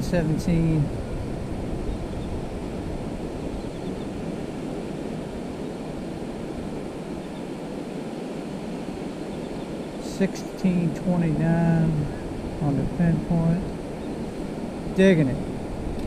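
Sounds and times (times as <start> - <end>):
ocean surf: 0.0 - 16.0
wind on microphone: 0.0 - 16.0.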